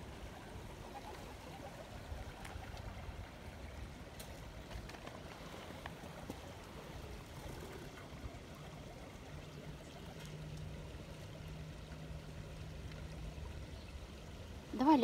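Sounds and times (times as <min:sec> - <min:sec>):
bubbling stream rushing: 0:00.0 - 0:15.0.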